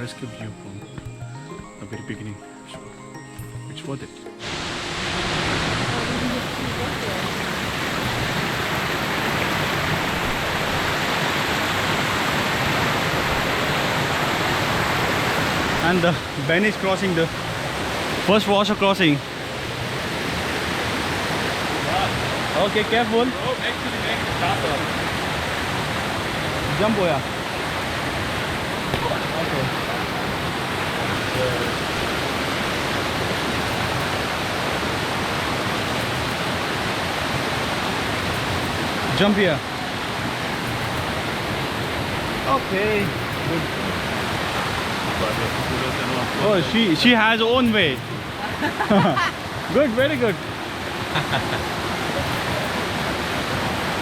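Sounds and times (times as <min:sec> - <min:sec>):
stream water flowing over rocks: 0:04.2 - 0:54.0.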